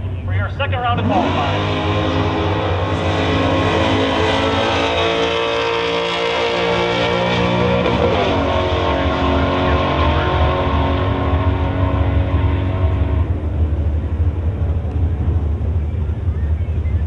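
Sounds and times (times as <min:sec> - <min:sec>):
car engine accelerating hard: 0:00.8 - 0:17.0.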